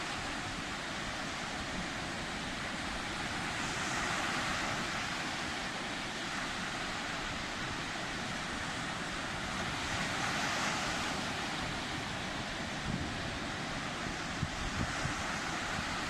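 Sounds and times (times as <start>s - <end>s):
sea surf washing: 0.0s - 16.0s
wind rumble on microphone: 0.0s - 16.0s.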